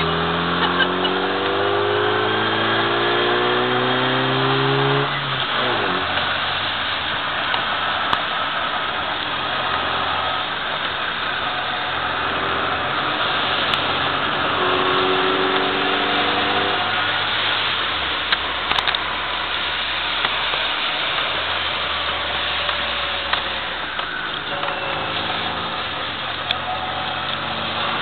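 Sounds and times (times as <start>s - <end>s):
car engine running hard: 0.0s - 28.0s
tyres hissing on wet tarmac: 0.0s - 28.0s.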